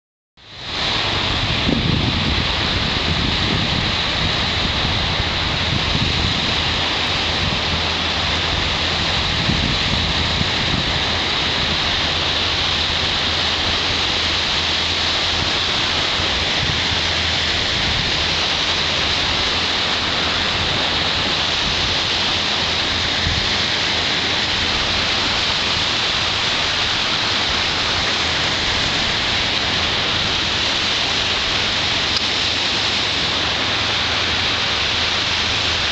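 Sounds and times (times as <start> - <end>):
surf washing onto shore: 0.4 - 35.9
wind buffeting microphone: 0.6 - 35.9.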